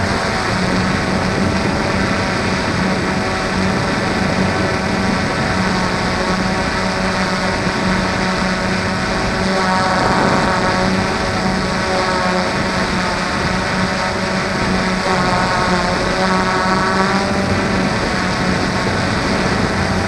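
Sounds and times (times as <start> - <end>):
drone motors buzzing whine: 0.0 - 20.0.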